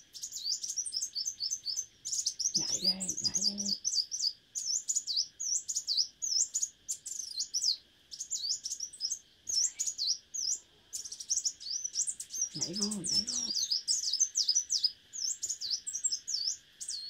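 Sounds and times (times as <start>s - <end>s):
bird chirping song: 0.0s - 17.0s
faint hiss: 1.8s - 17.0s.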